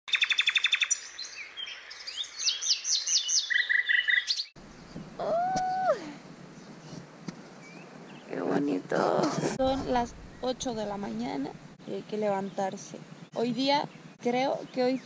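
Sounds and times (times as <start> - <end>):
birds chirping and trilling: 0.1 - 5.9, 6.5 - 15.0.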